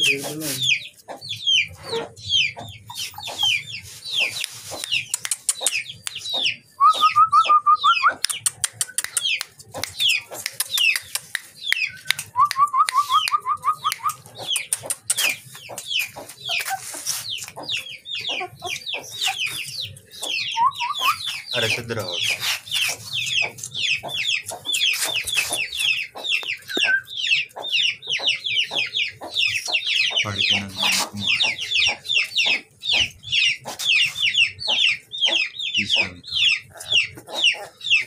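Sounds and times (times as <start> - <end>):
puppies whining: 0.0 - 38.0
rapid chattering call: 0.0 - 38.0.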